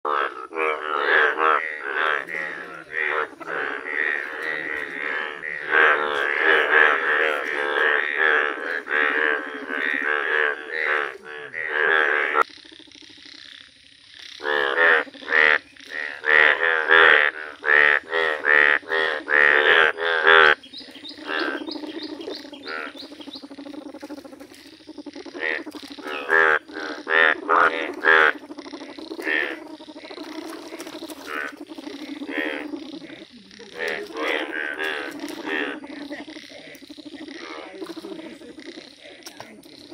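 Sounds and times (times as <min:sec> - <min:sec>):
bullfrogs croaking chorus: 0:00.0 - 0:39.9.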